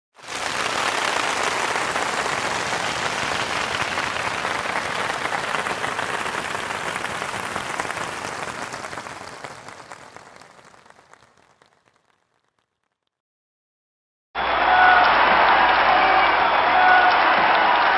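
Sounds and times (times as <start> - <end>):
large crowd applauding: 0.1 - 12.9, 14.4 - 17.9.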